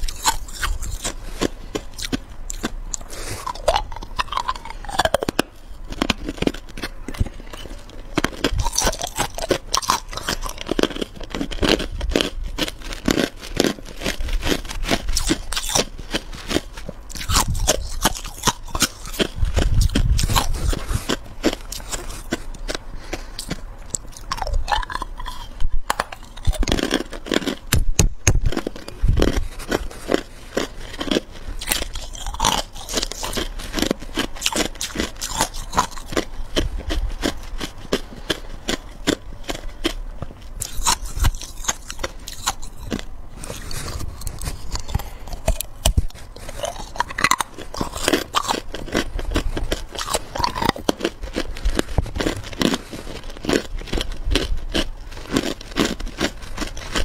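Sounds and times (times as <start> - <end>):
person chewing ice: 0.0 - 57.0.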